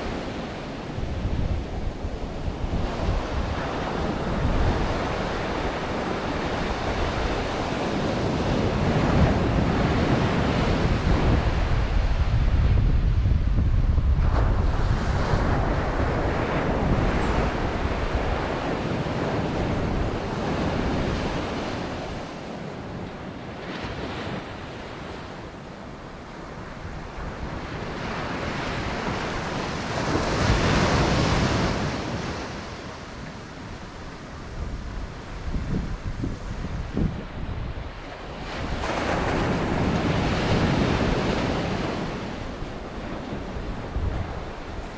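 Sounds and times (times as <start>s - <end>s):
ocean surf breaking: 0.0s - 12.8s, 14.0s - 44.9s
wind buffeting microphone: 0.0s - 44.9s.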